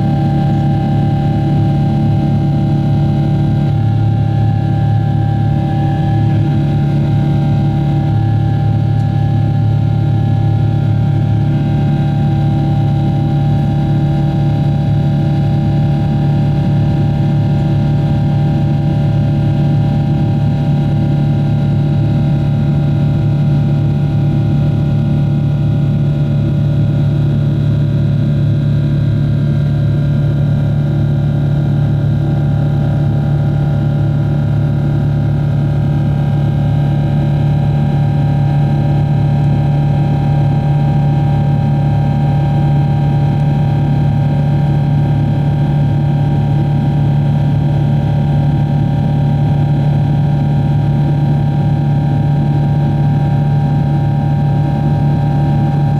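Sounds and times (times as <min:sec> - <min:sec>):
jet engine cabin drone: 0:00.0 - 0:55.9.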